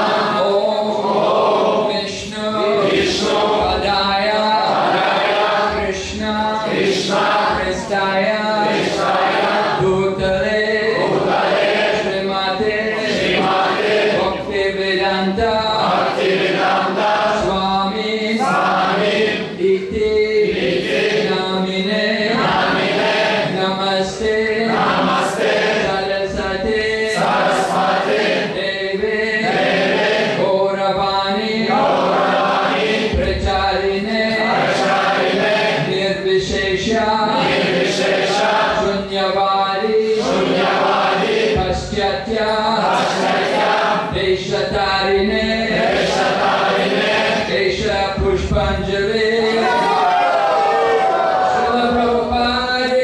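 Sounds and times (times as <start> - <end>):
crowd chanting devotional song: 0.0 - 53.0
person singing into microphone: 0.0 - 53.0.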